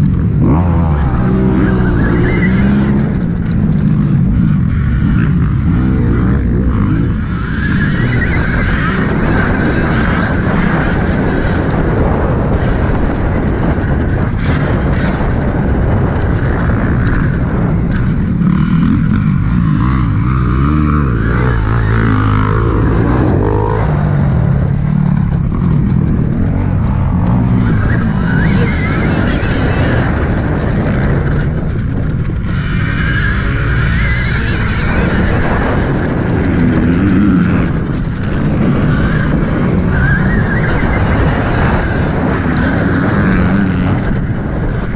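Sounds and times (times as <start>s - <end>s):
dirt bikes revving: 0.0s - 44.9s.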